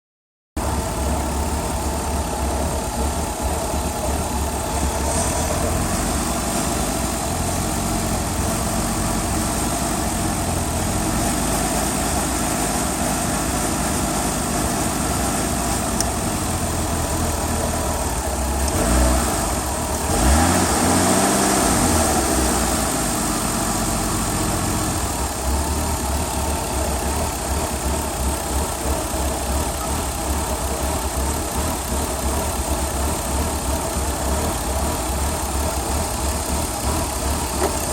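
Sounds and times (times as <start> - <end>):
car engine idling: 0.6 - 37.9.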